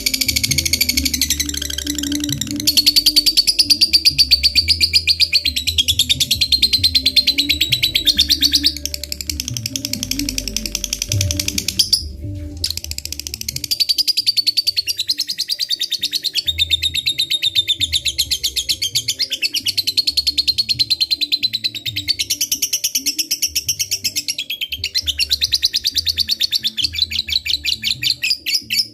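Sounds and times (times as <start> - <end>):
lovebird chattering trill: 0.0 - 28.9.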